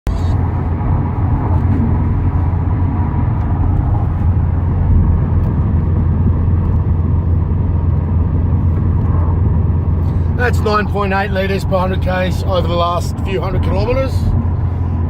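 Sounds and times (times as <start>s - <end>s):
road and tyre noise in car cabin: 0.1s - 15.0s.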